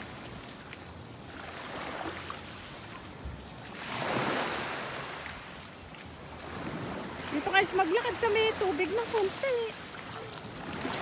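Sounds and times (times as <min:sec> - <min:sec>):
small waves on pebbly beach: 0:00.0 - 0:11.0.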